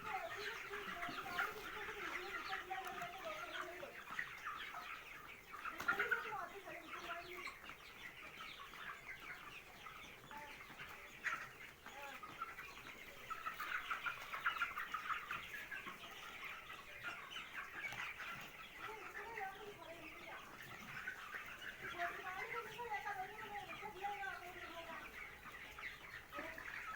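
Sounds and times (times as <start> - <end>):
chickens cheeping and clucking: 0.0 - 26.9.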